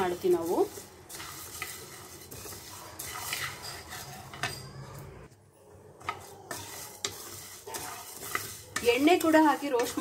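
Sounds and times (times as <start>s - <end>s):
wooden spatula scraping a pan: 0.0s - 5.1s, 6.0s - 10.0s.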